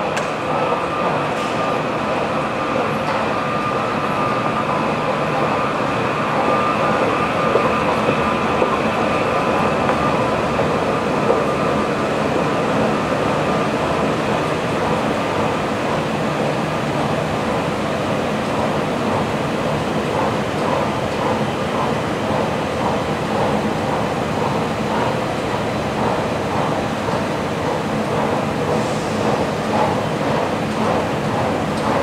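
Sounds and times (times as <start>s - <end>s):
escalator whir and rumble: 0.0s - 32.0s.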